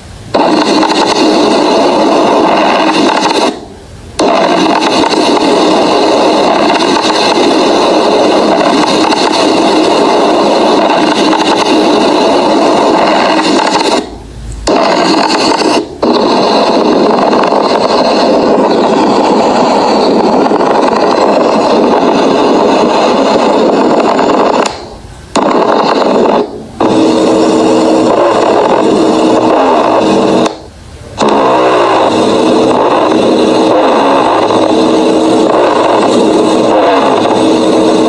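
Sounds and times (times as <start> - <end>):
raspy crackling lung sounds: 0.3 - 38.0.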